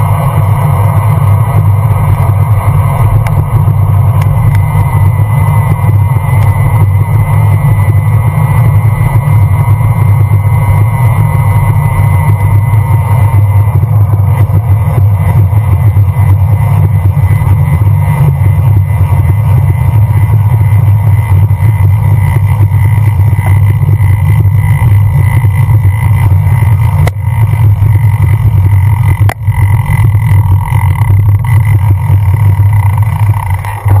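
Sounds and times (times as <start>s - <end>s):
road and tyre noise: 0.0s - 34.0s
wind rumbling on microphone: 0.0s - 34.0s.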